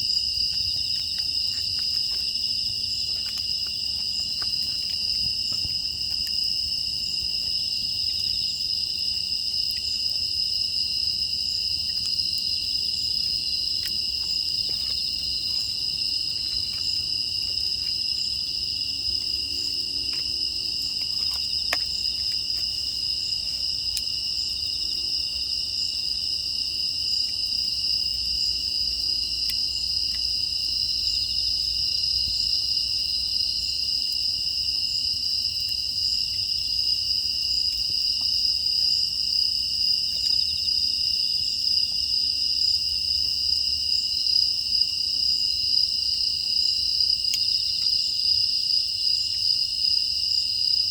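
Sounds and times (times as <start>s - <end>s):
grass insects chirping: 0.0s - 50.9s.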